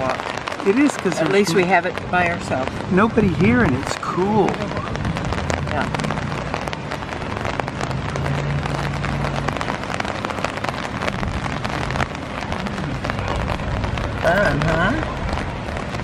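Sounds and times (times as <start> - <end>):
rain on an umbrella: 0.0 - 16.0.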